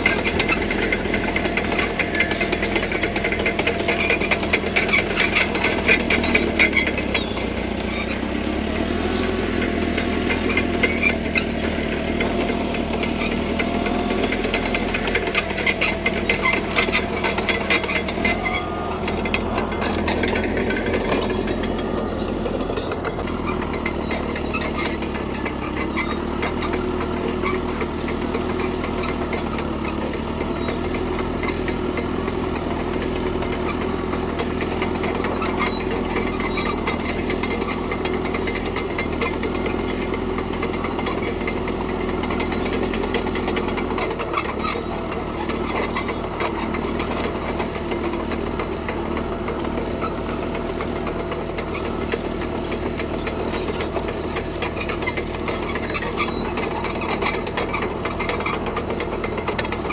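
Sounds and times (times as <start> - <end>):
bulldozer diesel engine: 0.0 - 59.9
tracks clanking on gravel: 0.0 - 59.9.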